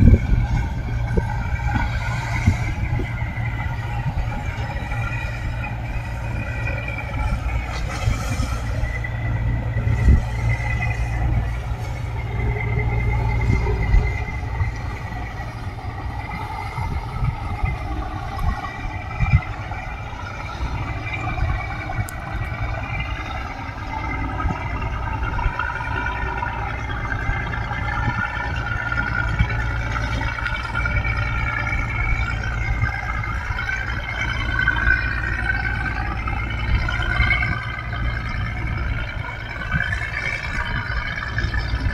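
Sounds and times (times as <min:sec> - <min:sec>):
motorboat engines running: 0:00.0 - 0:41.9.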